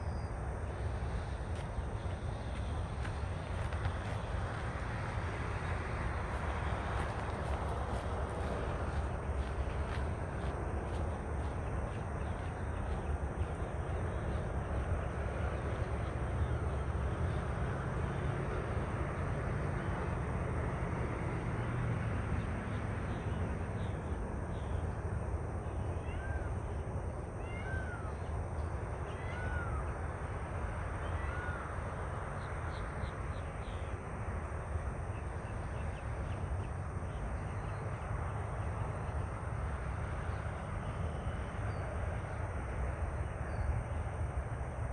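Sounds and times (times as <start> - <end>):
low outdoor rumble: 0.0 - 44.9.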